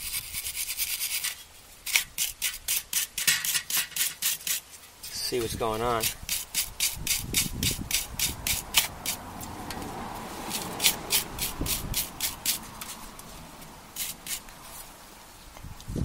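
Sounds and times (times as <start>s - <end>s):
wire brush scrubbing metal: 0.0s - 14.9s.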